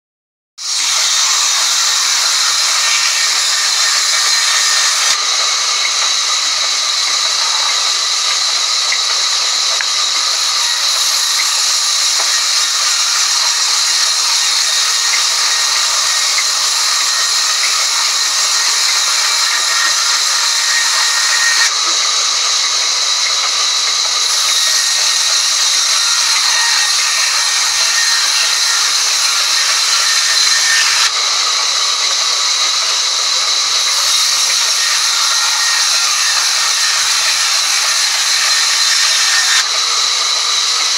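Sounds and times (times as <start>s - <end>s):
band saw cutting timber: 0.6s - 40.9s.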